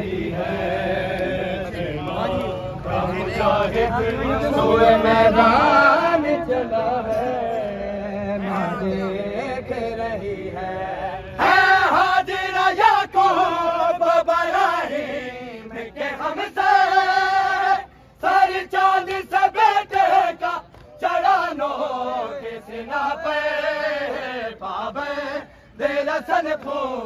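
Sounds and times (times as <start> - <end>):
men chanting together: 0.0 - 27.0.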